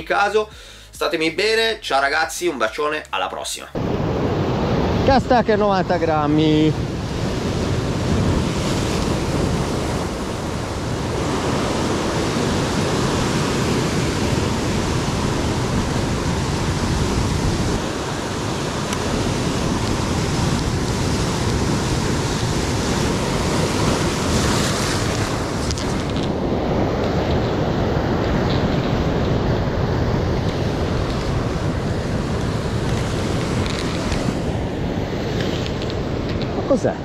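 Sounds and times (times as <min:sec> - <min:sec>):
surf on rocky shore: 0:03.8 - 0:37.0.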